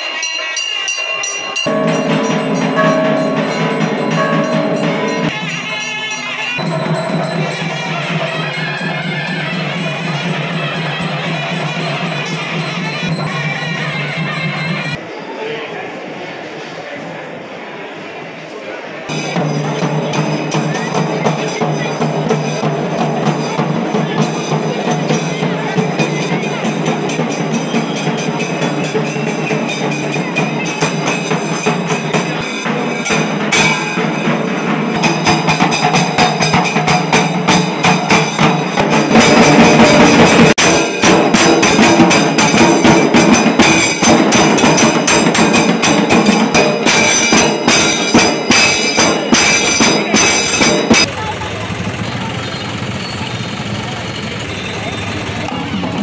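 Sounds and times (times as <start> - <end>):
bell-like metallic strikes: 0.0 - 15.0, 19.1 - 51.1
fast percussion procession music: 0.0 - 15.0, 19.1 - 56.0.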